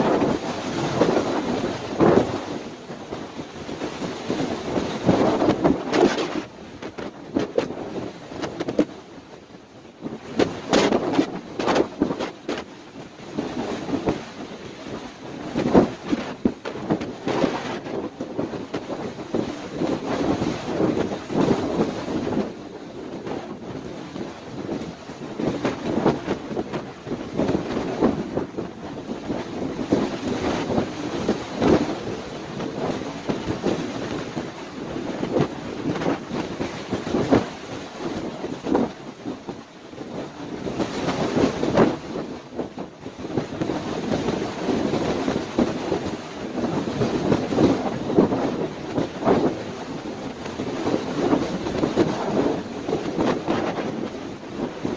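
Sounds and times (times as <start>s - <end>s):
wind gusting against microphone: 0.0s - 54.9s.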